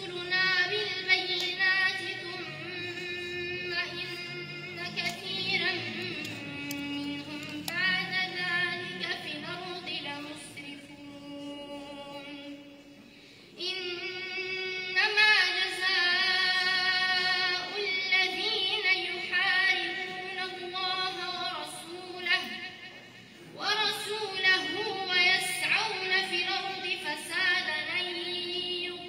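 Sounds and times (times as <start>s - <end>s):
woman reciting melodically: 0.0s - 29.0s.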